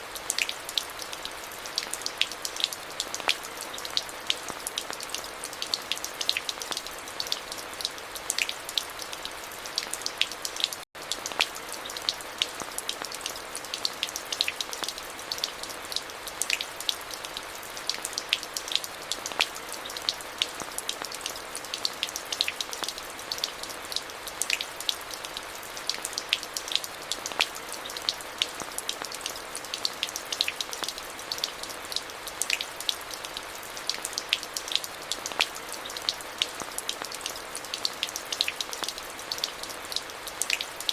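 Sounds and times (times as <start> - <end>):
steady rain hiss: 0.0 - 40.9
raindrops ticking: 0.2 - 40.9.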